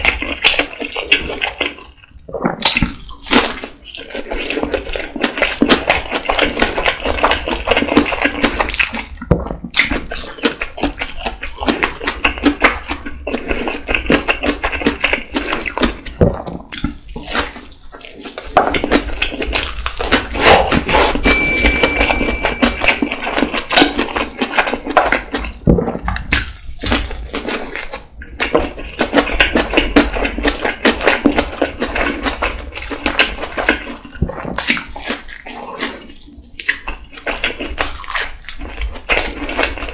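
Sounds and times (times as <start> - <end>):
wet chewing and smacking: 0.0 - 39.9.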